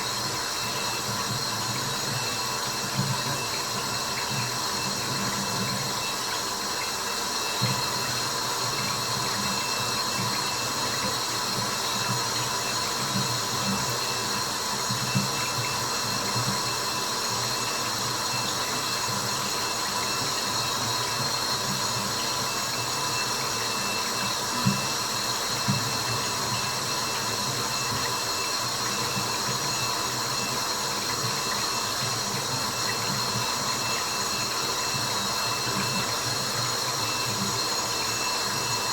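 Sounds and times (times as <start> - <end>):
running water hiss: 0.0 - 38.9.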